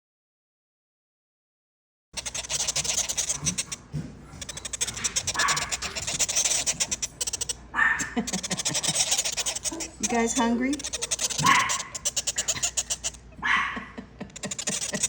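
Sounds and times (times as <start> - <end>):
parrot chicks chittering: 2.2 - 15.0.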